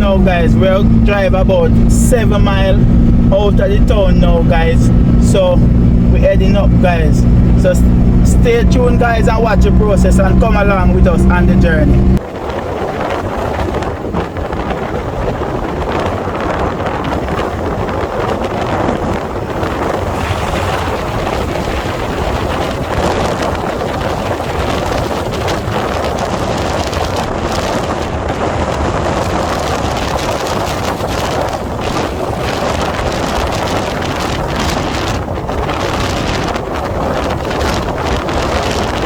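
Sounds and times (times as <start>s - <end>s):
vehicle engine: 0.0s - 12.3s, 17.5s - 36.7s
road noise: 0.0s - 39.0s
wind buffeting microphone: 0.0s - 39.0s.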